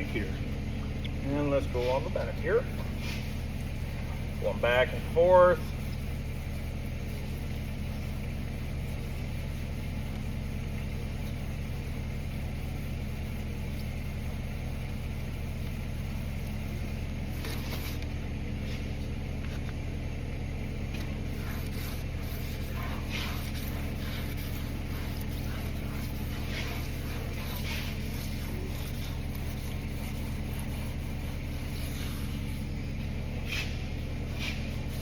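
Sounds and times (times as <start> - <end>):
low mechanical hum: 0.0 - 35.0
wet sanding strokes: 1.3 - 19.5, 21.0 - 35.0.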